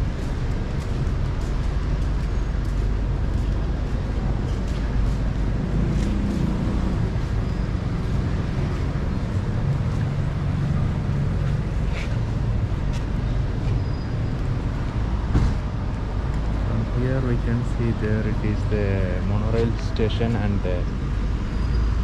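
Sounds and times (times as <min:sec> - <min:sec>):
car engines rumbling in traffic: 0:00.0 - 0:22.0.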